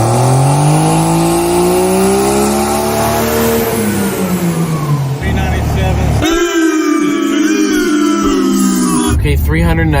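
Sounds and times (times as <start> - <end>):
diesel engine under full throttle: 0.0 - 10.0.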